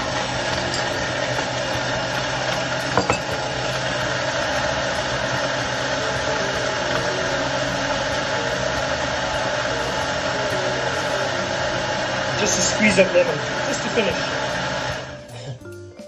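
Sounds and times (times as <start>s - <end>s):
blender running: 0.0s - 15.4s.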